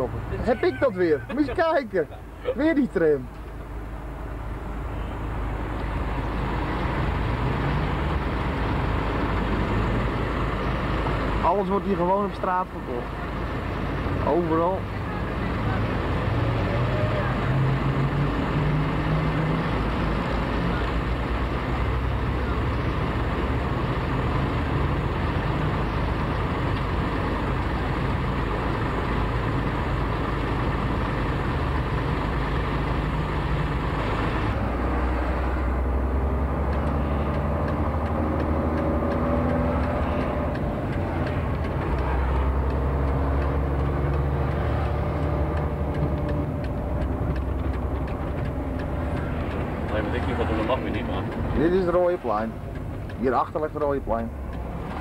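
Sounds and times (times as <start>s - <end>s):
truck engine accelerating: 0.0s - 55.0s.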